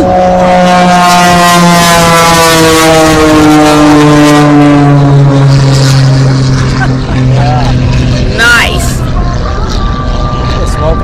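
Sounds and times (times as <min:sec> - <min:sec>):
propeller plane passing by: 0:00.0 - 0:11.0.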